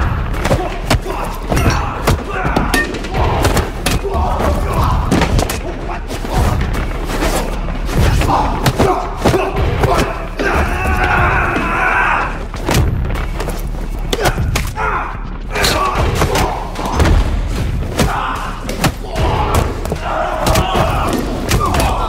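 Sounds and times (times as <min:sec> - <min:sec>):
fight blows and body thuds: 0:00.0 - 0:14.9, 0:15.6 - 0:22.0.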